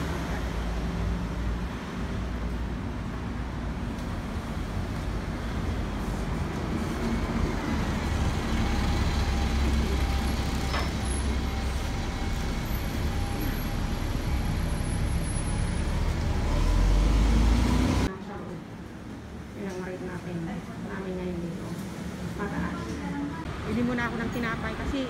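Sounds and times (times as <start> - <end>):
passing traffic rumble: 0.0 - 25.0.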